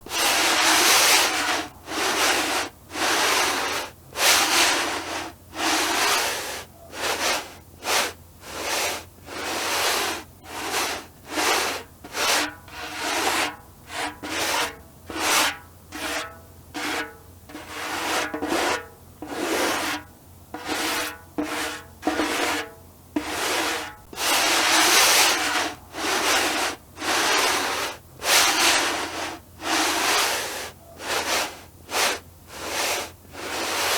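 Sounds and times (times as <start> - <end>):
drum head being rubbed: 0.1 - 20.0, 20.6 - 33.9.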